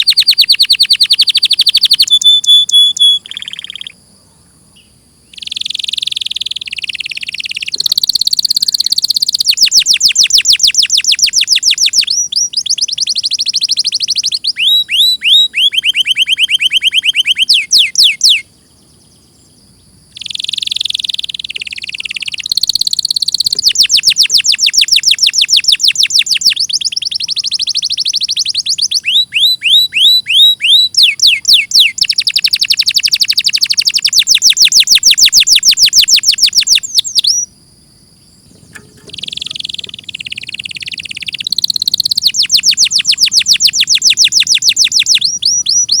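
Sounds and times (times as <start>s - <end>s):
canary singing trills: 0.0s - 4.0s, 4.7s - 46.0s.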